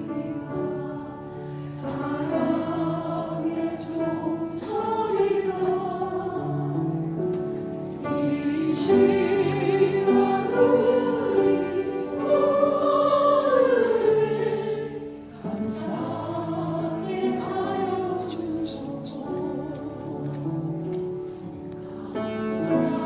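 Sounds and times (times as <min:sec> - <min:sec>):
choir singing a hymn: 0:00.0 - 0:23.0
soft accompaniment: 0:00.0 - 0:23.0.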